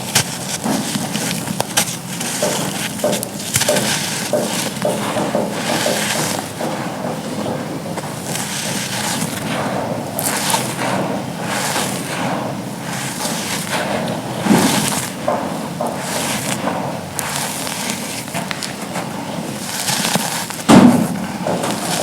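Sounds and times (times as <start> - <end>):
charcoal crunching: 0.0 - 22.0.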